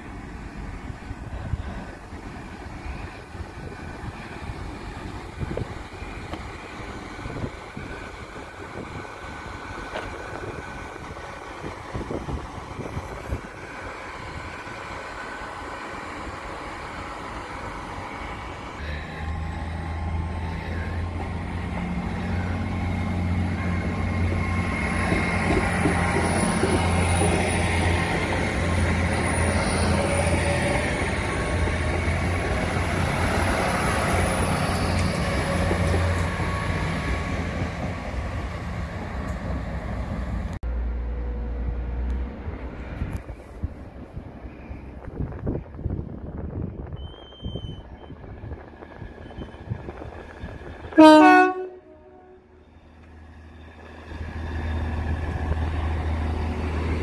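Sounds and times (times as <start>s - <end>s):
train diesel engine drone: 0.0s - 57.0s.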